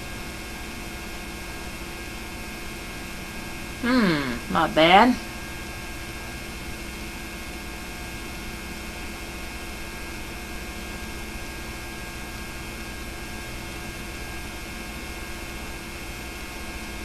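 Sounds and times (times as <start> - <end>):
electrical mains hum with hiss: 0.0 - 17.0.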